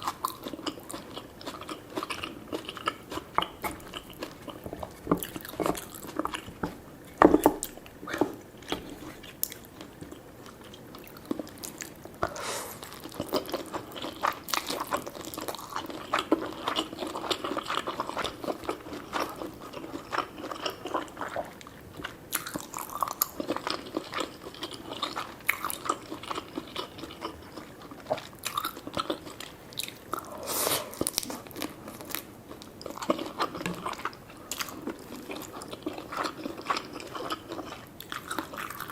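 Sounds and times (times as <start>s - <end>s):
chewing and biting food: 0.0s - 30.3s, 30.9s - 38.9s.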